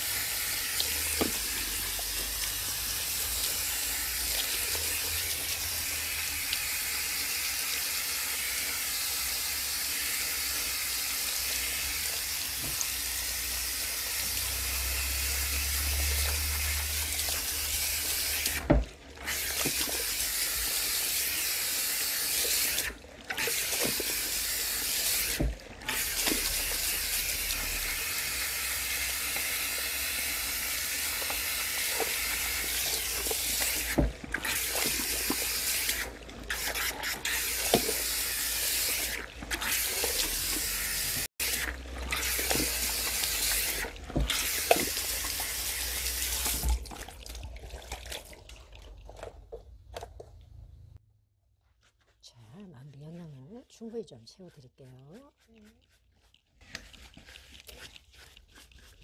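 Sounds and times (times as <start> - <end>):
water spraying into basin: 0.0 - 49.4.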